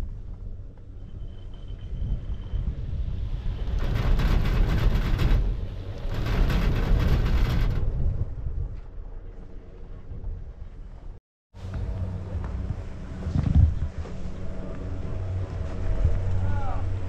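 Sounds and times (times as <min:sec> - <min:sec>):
gondola cabin low rumble: 0:00.0 - 0:17.0.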